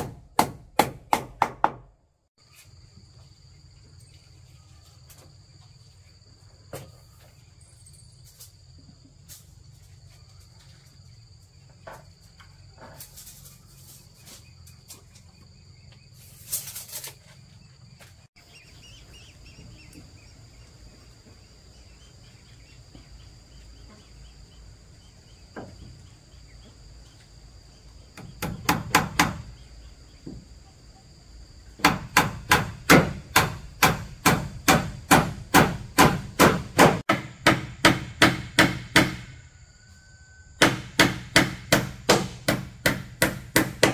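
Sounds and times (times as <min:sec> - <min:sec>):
insects droning: 0:02.4 - 0:43.9.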